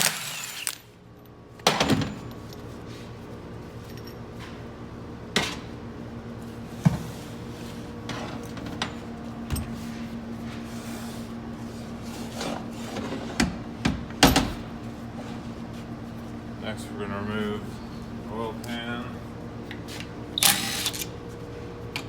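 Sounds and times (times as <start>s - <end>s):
steady low hum: 2.2s - 22.0s.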